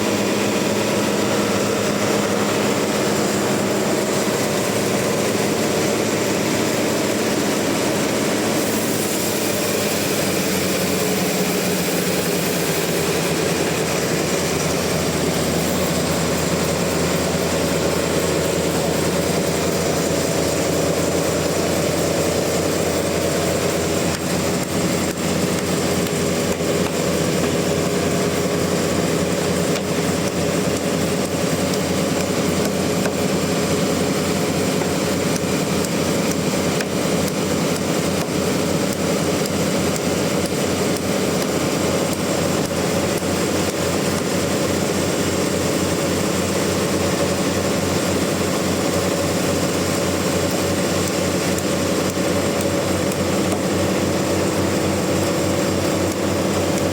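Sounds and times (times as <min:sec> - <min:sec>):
sawmill machinery droning: 0:00.0 - 0:56.9.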